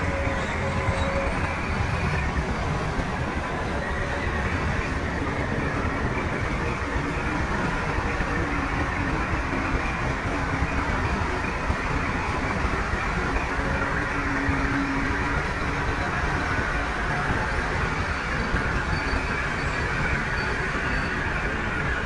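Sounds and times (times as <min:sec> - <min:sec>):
steel tracks clattering: 0:00.0 - 0:22.0.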